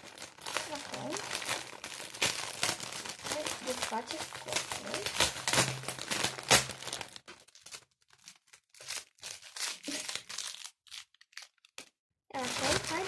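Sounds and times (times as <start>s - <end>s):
metallic gift wrap crinkling: 0.0s - 13.0s.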